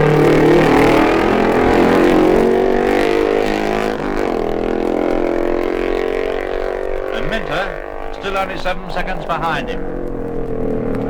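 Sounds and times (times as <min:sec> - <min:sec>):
racing motorcycle engines passing: 0:00.0 - 0:11.0.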